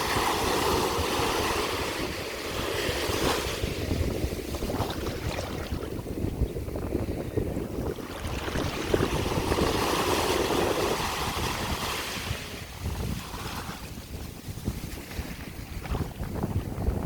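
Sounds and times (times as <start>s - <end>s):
waves washing ashore: 0.0s - 17.0s
wind rumble on microphone: 0.0s - 17.0s.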